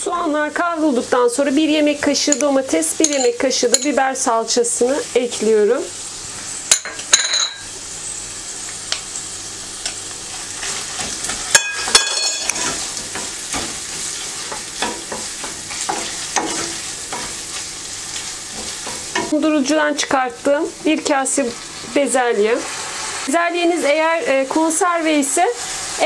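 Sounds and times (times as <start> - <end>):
meat and onions sizzling in a pan: 0.1 - 26.0.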